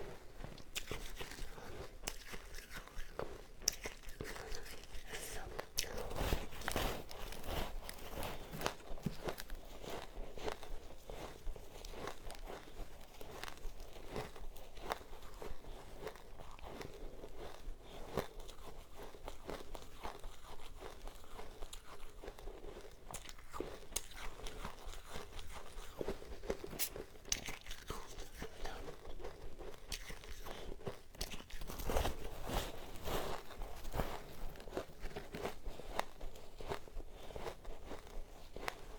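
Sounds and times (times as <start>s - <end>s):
chewing frozen ice: 0.1s - 38.9s.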